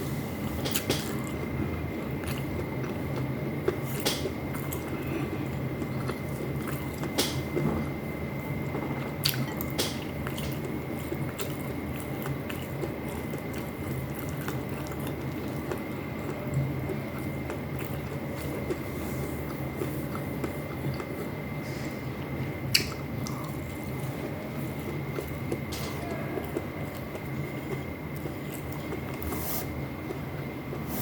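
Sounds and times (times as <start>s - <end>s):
background hum: 0.0s - 31.0s
person chewing wet food: 0.6s - 7.7s, 8.3s - 31.0s.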